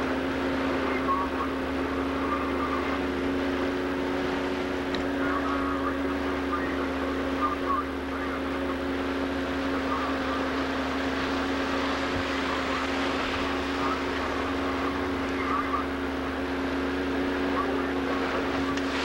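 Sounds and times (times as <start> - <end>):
boat engine droning: 0.0 - 19.0
water rushing: 0.0 - 19.0.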